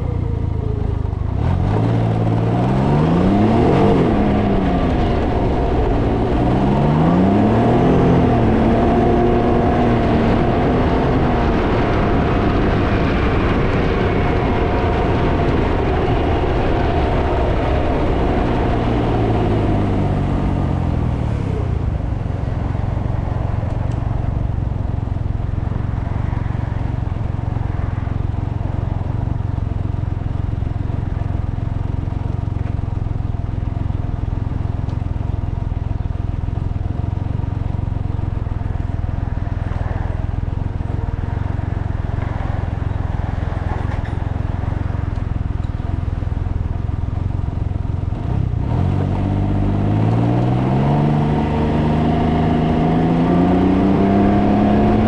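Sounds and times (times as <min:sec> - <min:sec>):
three-wheeler engine revving: 0:00.0 - 0:35.0, 0:35.7 - 0:55.0.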